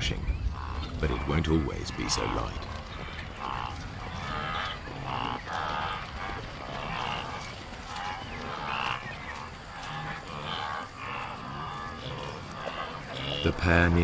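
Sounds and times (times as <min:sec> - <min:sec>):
wildebeest calling: 0:00.5 - 0:14.0.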